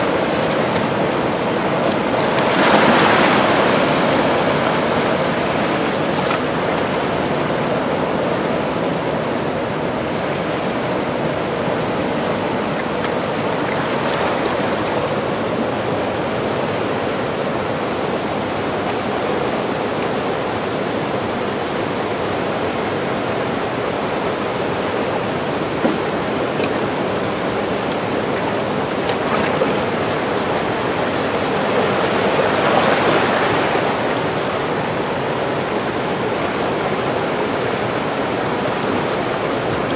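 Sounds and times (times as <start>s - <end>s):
white water rushing: 0.0s - 39.9s.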